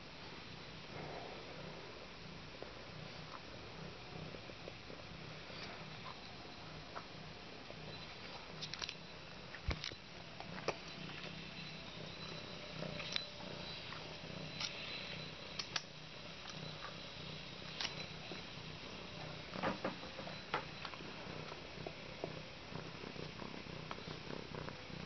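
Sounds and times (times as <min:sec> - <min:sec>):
cat purring: 0:00.2 - 0:25.0.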